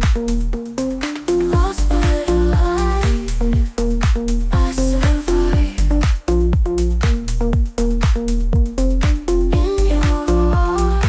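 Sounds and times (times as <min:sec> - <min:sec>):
kick drum: 0:00.0 - 0:00.6, 0:01.6 - 0:10.8
held bass line: 0:00.0 - 0:11.0
synth chords: 0:00.0 - 0:11.0.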